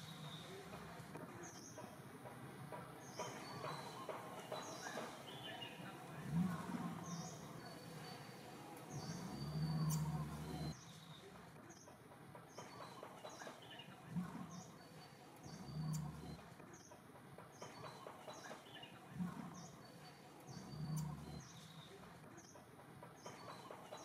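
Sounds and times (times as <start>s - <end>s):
faint outdoor background: 0.0s - 24.0s
small bird chirping: 3.0s - 17.0s, 17.6s - 24.0s.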